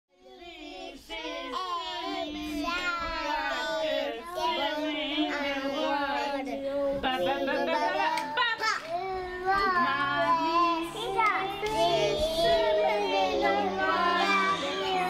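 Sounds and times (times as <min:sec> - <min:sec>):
children singing together: 0:00.1 - 0:08.3, 0:08.9 - 0:15.0.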